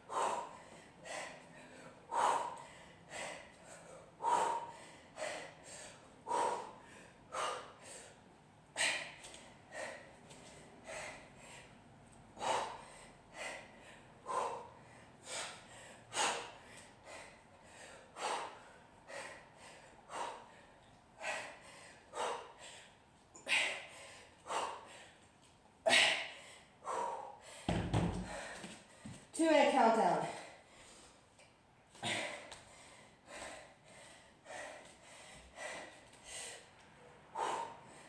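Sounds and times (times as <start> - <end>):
person breathing forcefully: 0.0 - 25.2, 25.9 - 29.3, 31.9 - 38.0.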